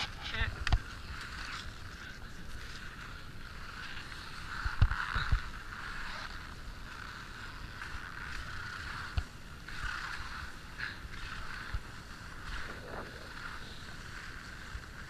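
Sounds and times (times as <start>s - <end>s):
skis scraping on snow: 0.0s - 15.0s.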